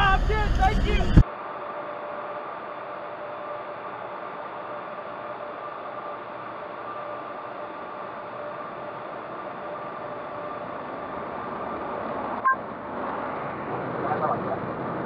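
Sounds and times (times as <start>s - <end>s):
faint steady hum: 0.0s - 14.1s.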